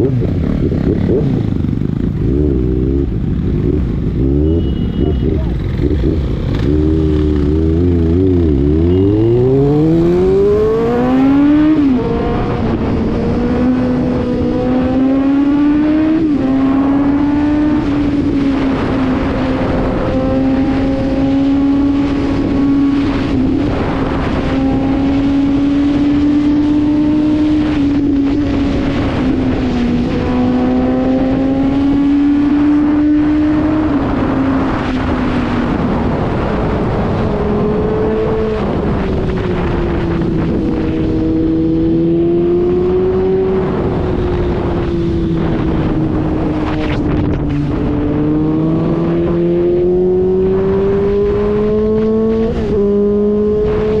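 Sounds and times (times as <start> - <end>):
motorcycle engine accelerating: 0.0 - 54.0
rushing wind noise: 0.0 - 54.0.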